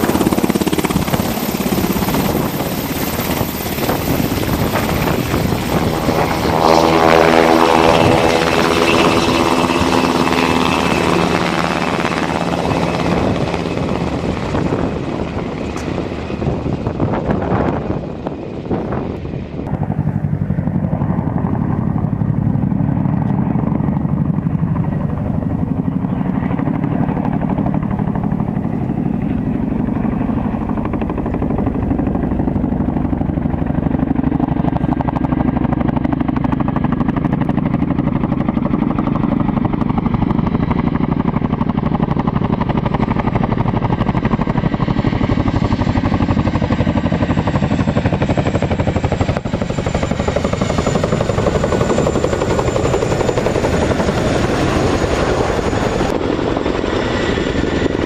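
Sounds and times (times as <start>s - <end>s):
helicopter rotor beat: 0.0s - 58.0s
turbine engine noise: 0.0s - 58.0s.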